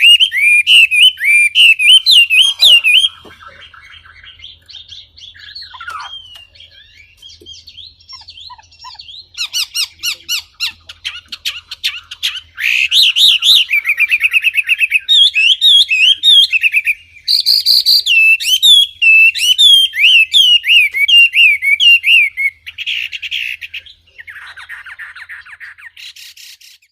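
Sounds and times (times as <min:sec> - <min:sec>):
songbird singing: 0:00.0 - 0:26.9.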